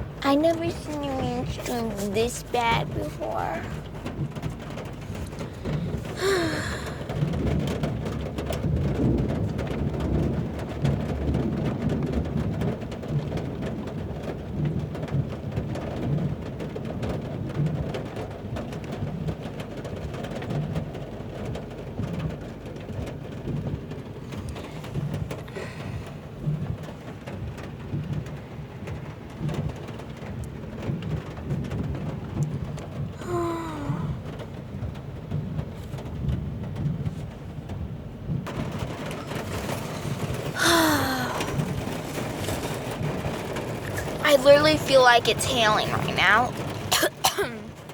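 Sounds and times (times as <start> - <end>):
rain drumming on car roof: 0.0 - 47.9.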